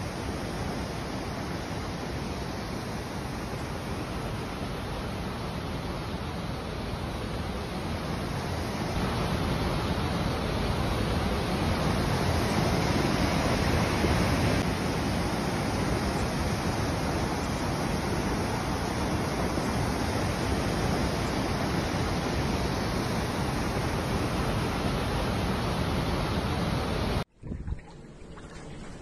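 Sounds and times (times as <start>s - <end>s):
flowing floodwater: 0.0s - 29.0s.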